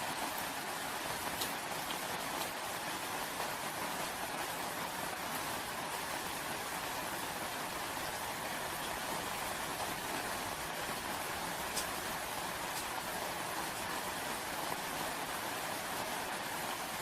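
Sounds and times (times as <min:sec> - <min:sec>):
rain hiss: 0:00.0 - 0:17.0
raindrops pattering: 0:00.0 - 0:17.0.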